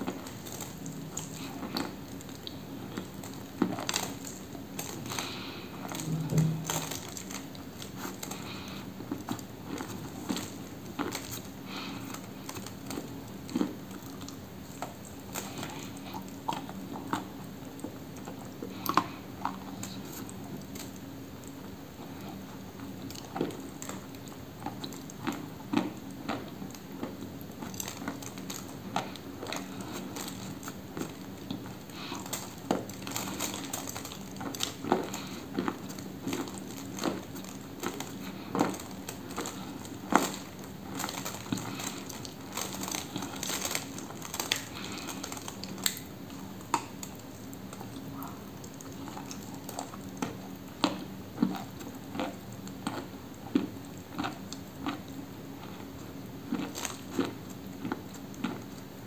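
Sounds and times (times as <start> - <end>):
crunchy chewing of chalk: 0.0 - 59.0
steady low hum: 0.0 - 59.0.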